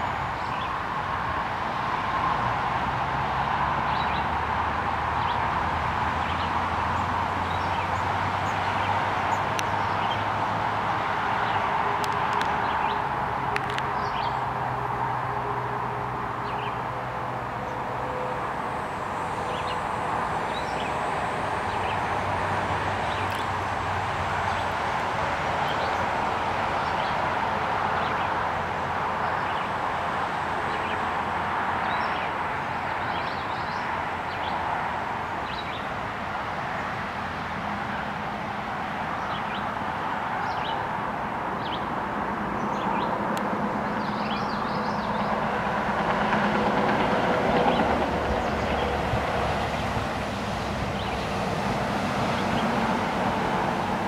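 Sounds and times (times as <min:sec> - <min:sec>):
vehicle noise: 0:00.0 - 0:54.0.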